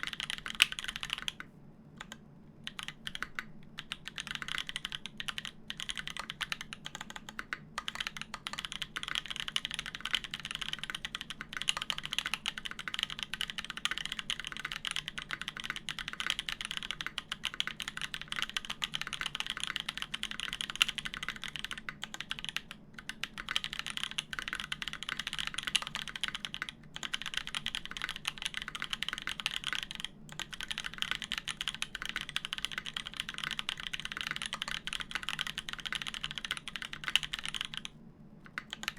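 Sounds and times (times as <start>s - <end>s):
fast mechanical keyboard typing: 0.0s - 1.4s, 2.0s - 38.9s.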